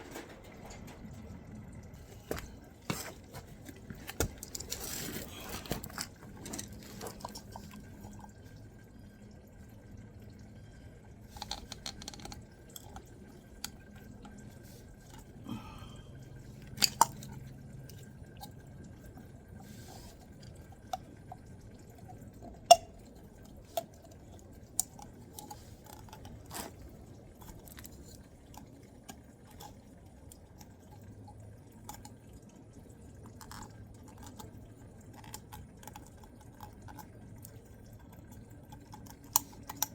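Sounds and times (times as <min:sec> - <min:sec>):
faint low hum: 0:00.0 - 0:39.9
oil dripping into a pan: 0:00.0 - 0:39.9.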